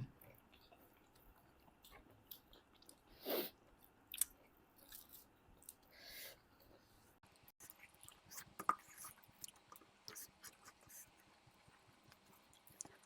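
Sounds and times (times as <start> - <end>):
people chewing: 0.2 - 5.9, 7.6 - 13.0.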